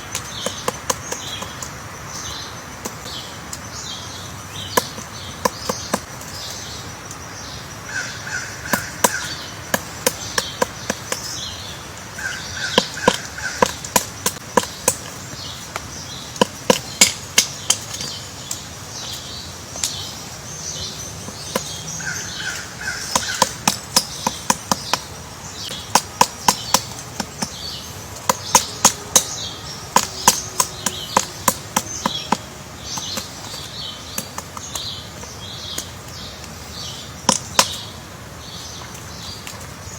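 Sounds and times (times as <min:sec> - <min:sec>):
woodpecker pecking wood: 0:00.0 - 0:07.2, 0:07.9 - 0:39.9
insects chirring: 0:00.0 - 0:39.9.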